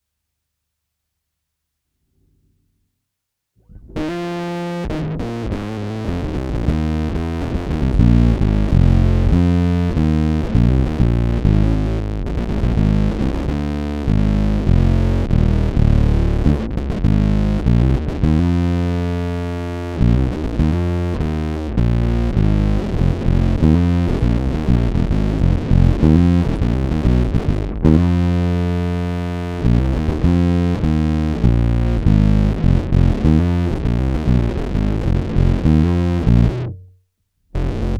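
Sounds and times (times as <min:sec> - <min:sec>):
distorted electric bass riff: 0:03.6 - 0:36.9, 0:37.6 - 0:37.9.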